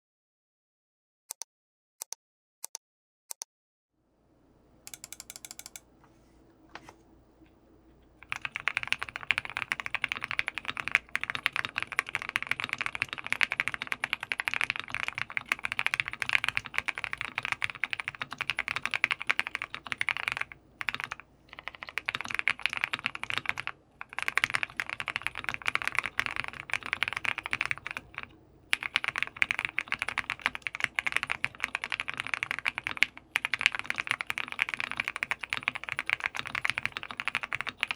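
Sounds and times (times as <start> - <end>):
fast typing on mechanical keyboard: 4.9 - 5.8, 8.2 - 37.9.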